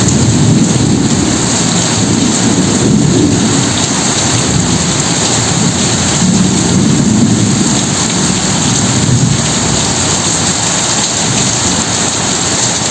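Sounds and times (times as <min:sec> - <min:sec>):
heavy rain: 0:00.0 - 0:12.9
low rumble of thunder: 0:00.0 - 0:12.9.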